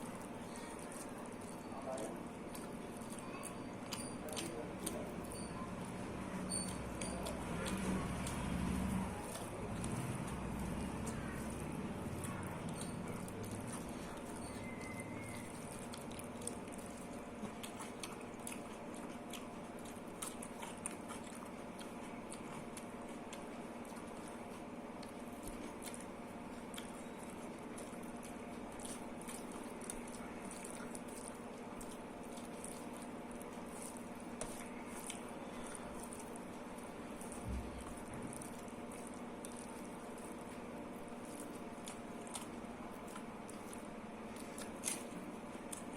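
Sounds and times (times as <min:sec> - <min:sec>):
person chewing food: 0:00.0 - 0:45.9
steady background hum: 0:00.0 - 0:45.9.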